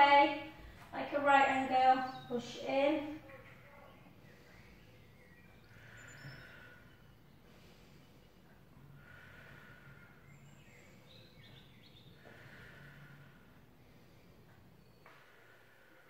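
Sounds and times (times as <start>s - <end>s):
faint slow breaths: 3.0s - 16.0s.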